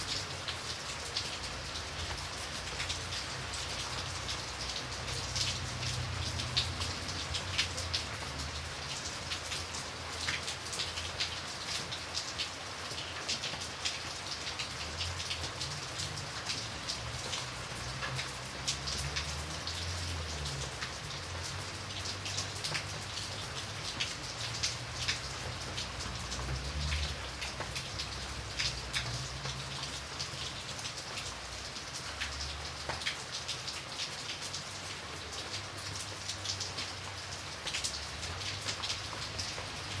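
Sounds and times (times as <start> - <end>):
raindrop ticks: 0.0 - 40.0.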